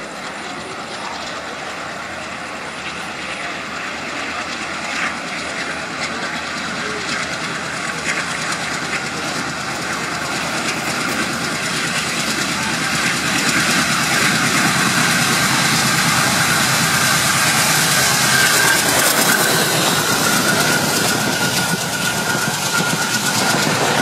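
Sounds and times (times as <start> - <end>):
diesel locomotive running: 0.0 - 24.0
train wheels clicking over rail joints: 4.3 - 24.0.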